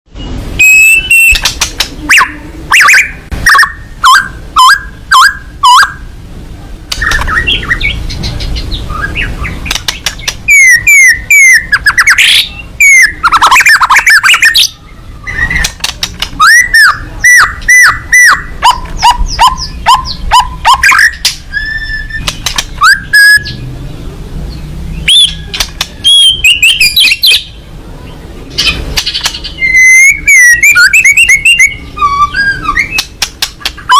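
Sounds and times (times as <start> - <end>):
songbird singing loudly: 0.1 - 6.1, 7.0 - 33.9.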